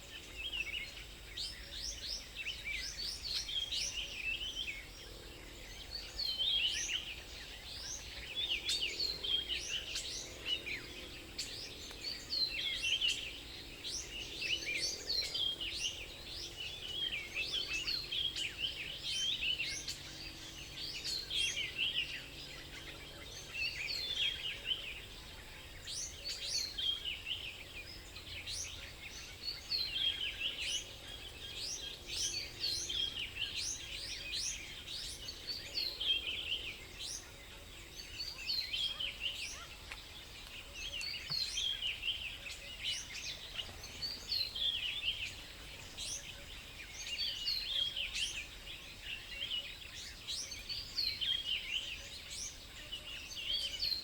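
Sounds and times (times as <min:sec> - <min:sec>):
faint low background noise: 0:00.0 - 0:54.0
songbirds chirping and twittering: 0:00.0 - 0:54.0.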